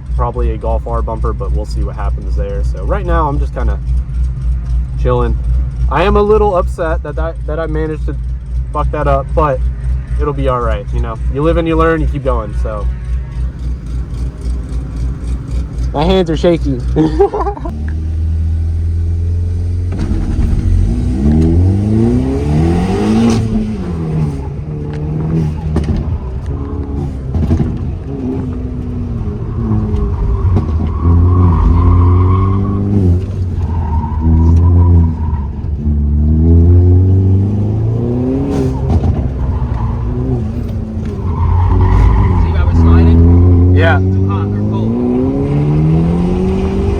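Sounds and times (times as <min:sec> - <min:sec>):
car engine revving hard: 0:00.4 - 0:46.9.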